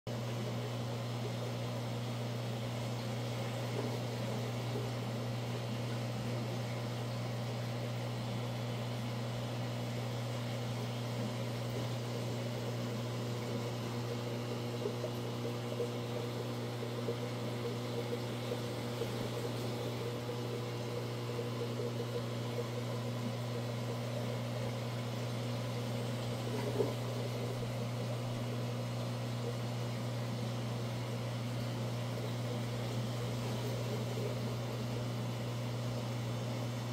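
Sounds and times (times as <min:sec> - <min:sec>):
aquarium pump humming: 0:00.1 - 0:36.9.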